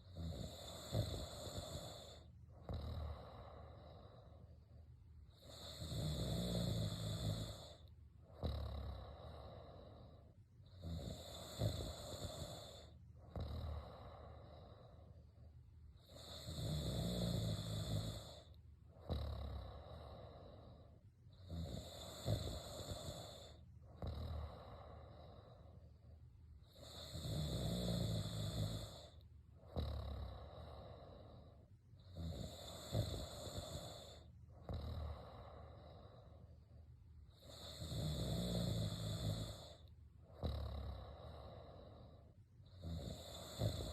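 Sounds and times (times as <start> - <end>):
person snoring: 0.0 - 4.6, 5.3 - 15.2, 16.0 - 26.0, 26.6 - 36.5, 37.3 - 43.9.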